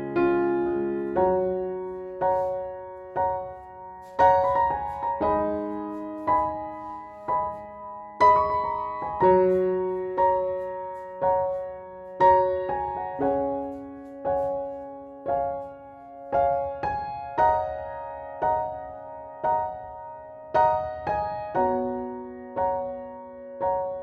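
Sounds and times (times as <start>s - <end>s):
gentle piano chords: 0.0s - 24.0s.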